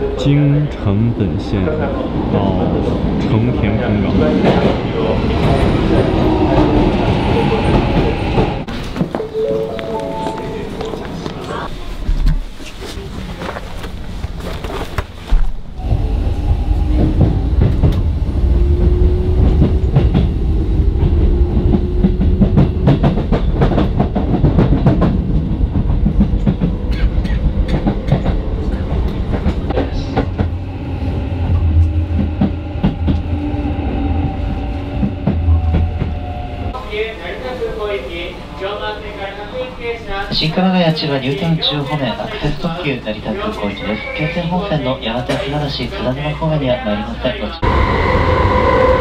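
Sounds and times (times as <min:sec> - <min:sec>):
train rumbling on rails: 0:00.0 - 0:49.0.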